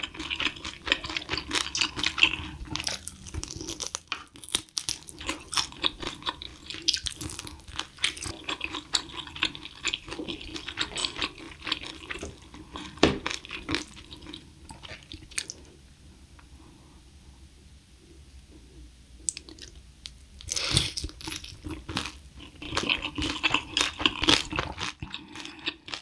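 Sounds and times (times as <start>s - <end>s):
crunchy chewing: 0.0s - 15.6s, 19.3s - 26.0s.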